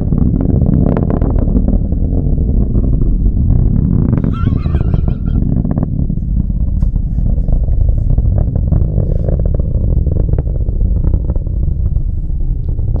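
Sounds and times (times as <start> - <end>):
distant rocket motor rumble: 0.0 - 13.0.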